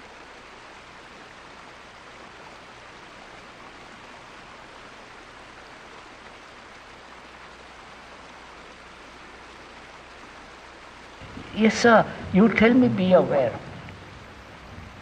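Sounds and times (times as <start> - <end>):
water flowing over rocks: 0.0 - 15.0.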